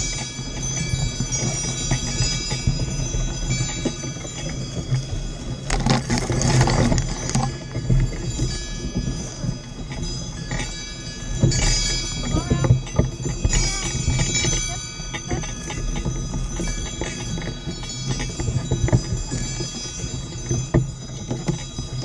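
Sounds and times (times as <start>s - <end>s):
harness hardware clicks: 0.0s - 22.0s
sled rumbling over snow: 0.0s - 22.0s
sleigh bells jingling: 0.0s - 22.0s.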